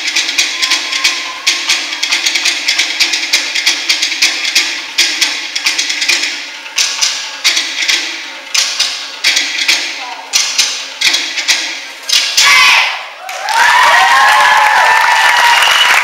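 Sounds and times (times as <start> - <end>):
wooden drumming: 0.0 - 12.9.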